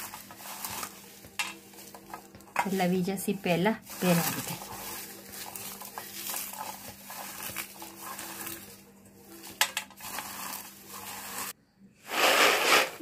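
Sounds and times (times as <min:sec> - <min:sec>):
peanuts rubbed in cloth: 0:00.0 - 0:13.0.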